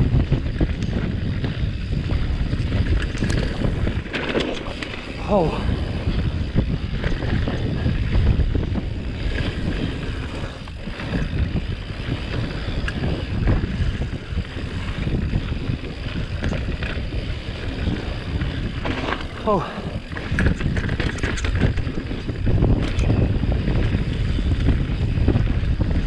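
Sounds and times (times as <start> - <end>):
bike rattling over bumps: 0.0 - 26.0
wind on microphone: 0.0 - 26.0.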